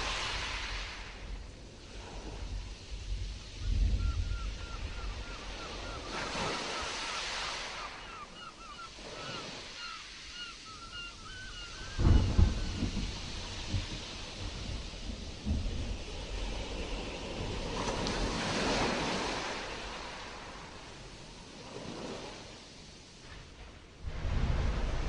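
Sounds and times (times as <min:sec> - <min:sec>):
wind rumbling on microphone: 0:00.0 - 0:09.6, 0:10.3 - 0:25.0
wave crashing: 0:00.0 - 0:22.5, 0:23.2 - 0:25.0
stormy sea surf: 0:00.0 - 0:25.0.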